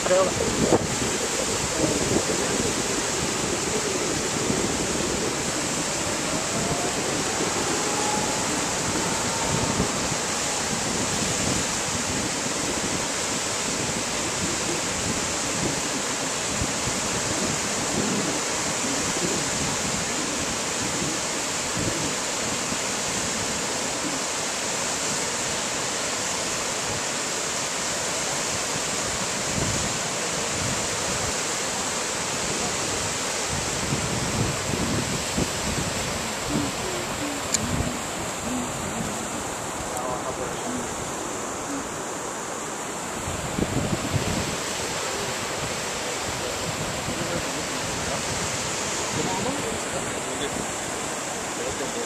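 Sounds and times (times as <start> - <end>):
wind buffeting microphone: 0.0 - 24.4, 28.4 - 31.5, 32.3 - 52.0
water rushing over rocky cascades: 0.0 - 52.0.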